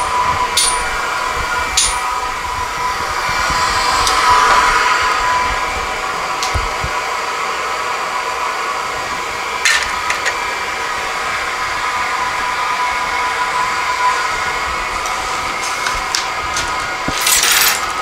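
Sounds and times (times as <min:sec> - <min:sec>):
gas burner roaring: 0:00.0 - 0:18.0.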